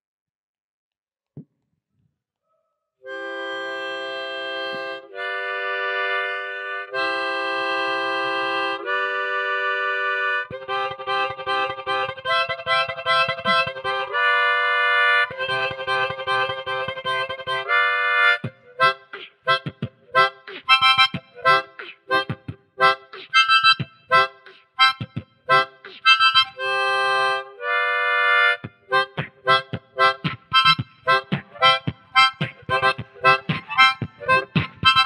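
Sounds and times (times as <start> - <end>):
harmonica chords: 3.0 - 35.0.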